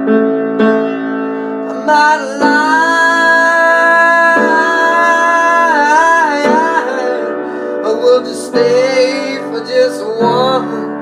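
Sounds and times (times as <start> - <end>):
acoustic piano chords: 0.0 - 11.0
man singing a long held note: 1.7 - 10.9.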